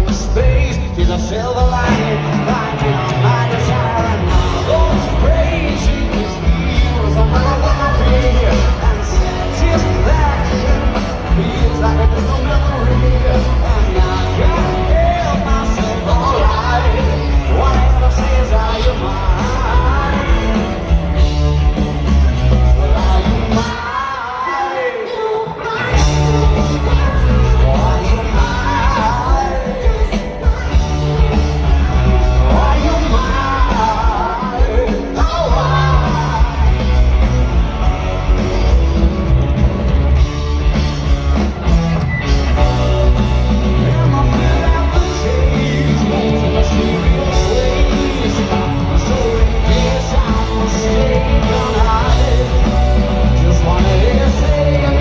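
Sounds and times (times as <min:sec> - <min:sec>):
person singing: 0:00.0 - 0:38.6, 0:42.5 - 0:55.0
live rock band playing: 0:00.0 - 0:55.0.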